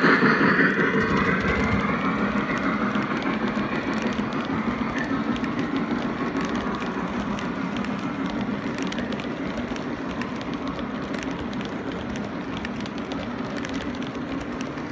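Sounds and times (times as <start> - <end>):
model train wheels rumbling: 0.0 - 14.9.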